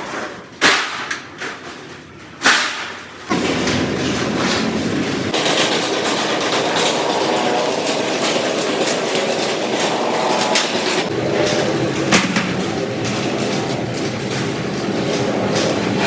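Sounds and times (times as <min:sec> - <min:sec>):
factory machinery clattering: 0:00.0 - 0:16.0.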